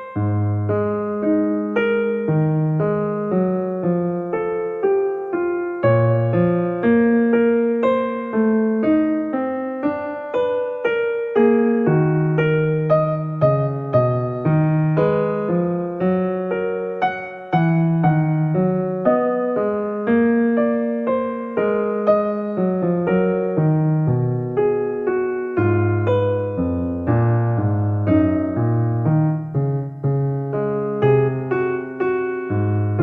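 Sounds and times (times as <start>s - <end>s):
slow piano melody: 0.0s - 33.0s.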